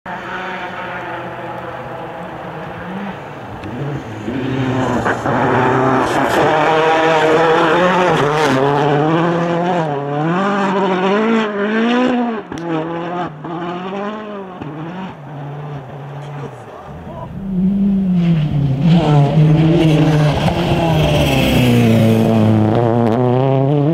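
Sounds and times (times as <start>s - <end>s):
rally car engine passing: 0.1s - 23.9s.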